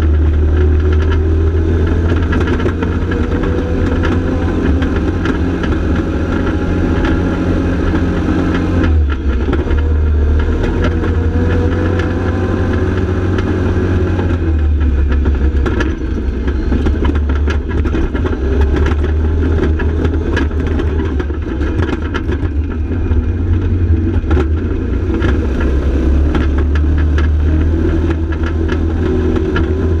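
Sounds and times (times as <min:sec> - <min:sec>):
rattles and knocks: 0:00.0 - 0:30.0
vehicle engine running: 0:00.0 - 0:30.0.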